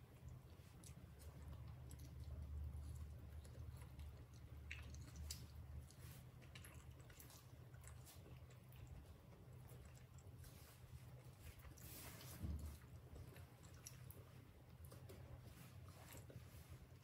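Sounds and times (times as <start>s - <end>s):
low steady hum: 0.0s - 17.0s
monkey chewing clicks and smacks: 0.1s - 11.8s, 12.8s - 17.0s.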